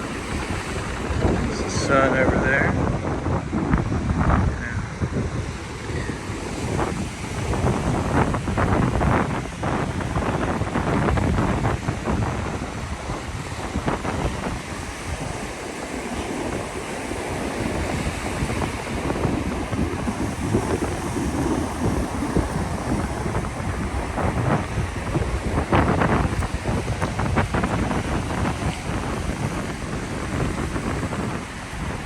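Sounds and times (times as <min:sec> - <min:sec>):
ocean surf on beach: 0:00.0 - 0:32.0
wind buffeting microphone: 0:00.0 - 0:32.0.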